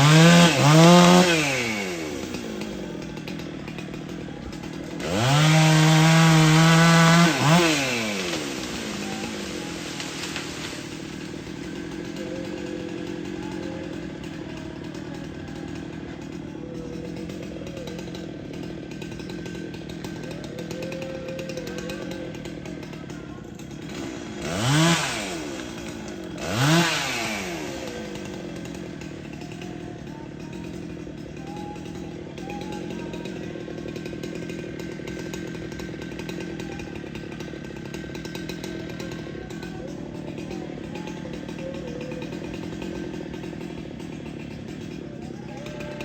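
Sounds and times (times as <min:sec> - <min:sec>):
chainsaw idling and revving: 0:00.0 - 0:46.0.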